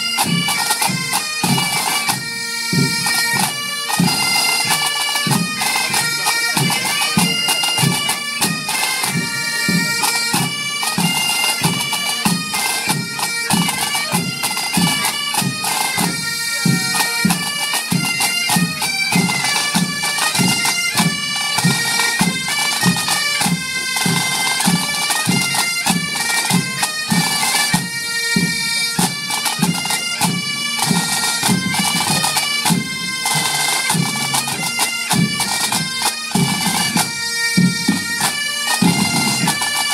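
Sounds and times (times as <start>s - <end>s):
bagpipes playing held notes: 0.0s - 39.9s
regular drum beat: 0.0s - 39.9s.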